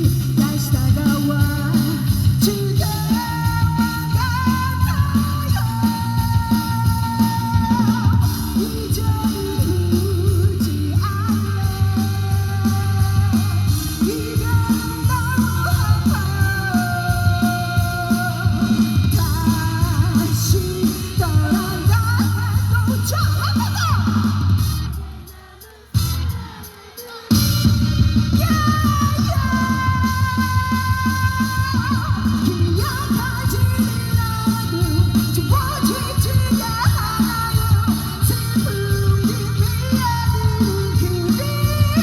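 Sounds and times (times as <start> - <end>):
drums: 0.0 - 42.0
live pop-rock band playing: 0.0 - 42.0.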